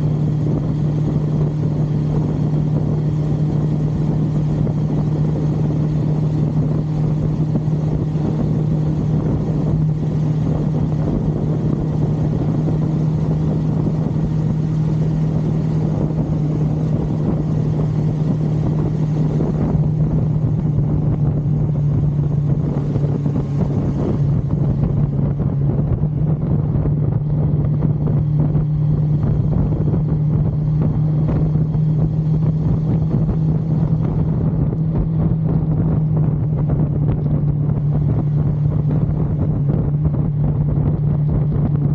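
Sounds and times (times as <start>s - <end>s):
motorcycle engine cruising: 0.0s - 41.9s
wind rushing over microphone: 0.0s - 41.9s.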